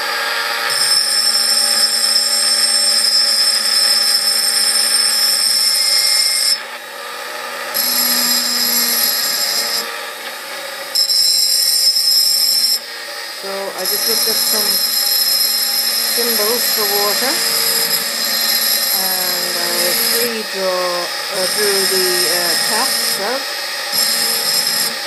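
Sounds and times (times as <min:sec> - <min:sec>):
rotary drill engraving glass: 0:00.0 - 0:25.0.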